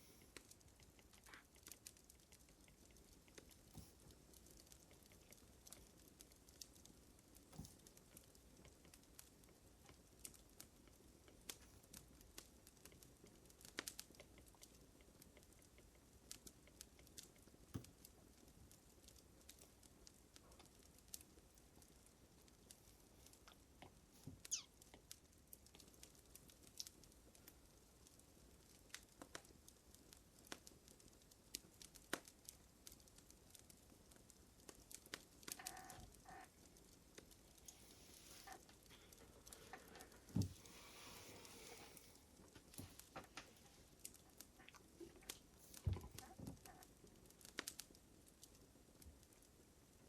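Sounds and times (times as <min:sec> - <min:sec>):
fire crackling: 0:00.0 - 0:50.0.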